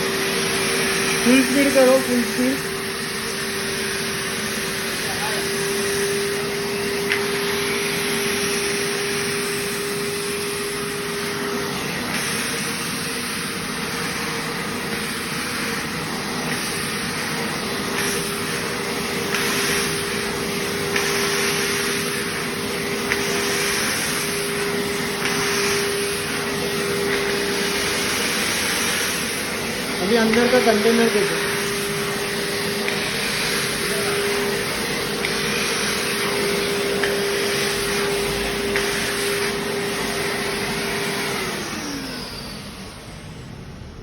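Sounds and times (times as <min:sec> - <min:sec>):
vacuum cleaner motor running: 0:00.0 - 0:44.0.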